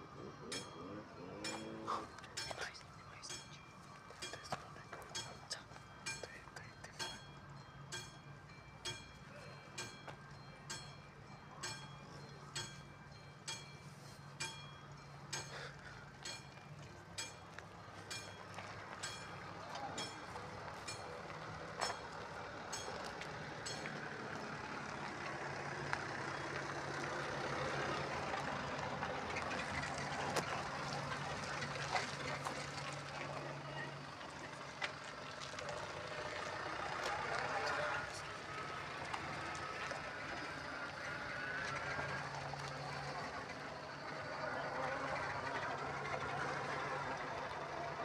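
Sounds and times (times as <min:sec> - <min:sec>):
level crossing warning bell: 0:00.0 - 0:48.0
train on rails: 0:00.0 - 0:48.0.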